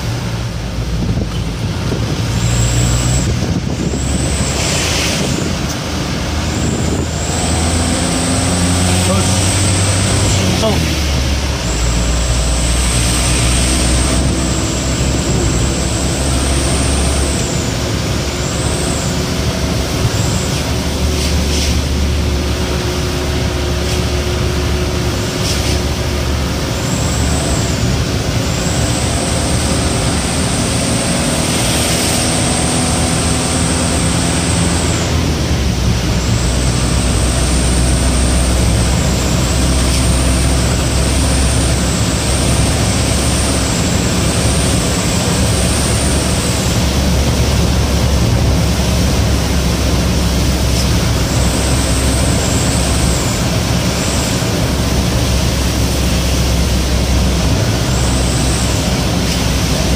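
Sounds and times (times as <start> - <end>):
truck engine low drone: 0.0 - 59.9.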